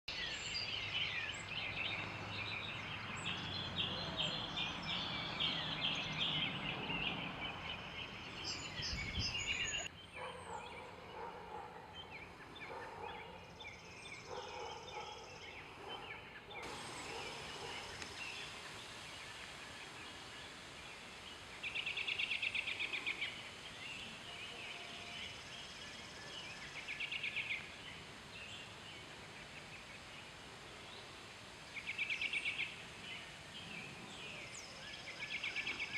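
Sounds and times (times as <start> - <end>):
traffic noise: 0.1 - 31.7
birds chattering and chirping: 0.1 - 35.9
birds rapid trilling: 0.1 - 35.9.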